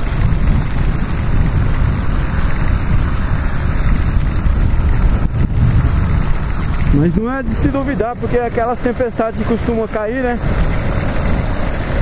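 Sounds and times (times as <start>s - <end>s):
motorcycle engine rumble: 0.0s - 12.0s
wind and tyre spray: 0.0s - 12.0s.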